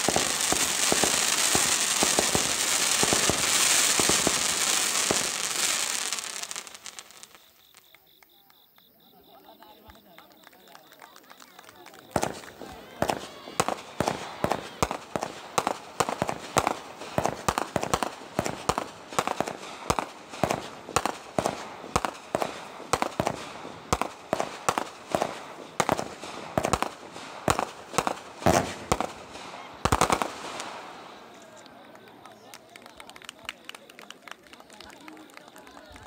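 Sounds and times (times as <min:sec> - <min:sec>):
fireworks bangs: 0:00.0 - 0:08.2, 0:09.7 - 0:35.1.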